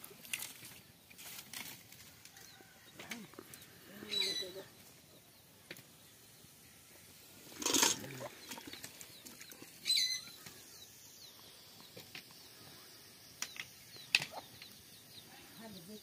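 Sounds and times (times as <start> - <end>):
birds chirping: 2.3 - 16.0.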